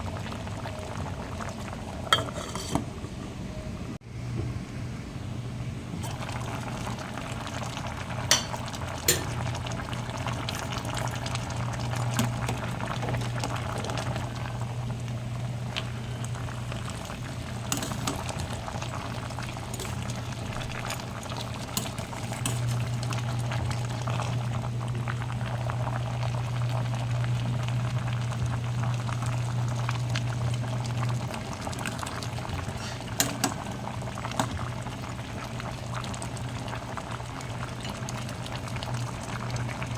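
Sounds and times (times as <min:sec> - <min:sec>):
steady low hum: 0:00.0 - 0:39.9
stew boiling and bubbling: 0:00.0 - 0:39.9.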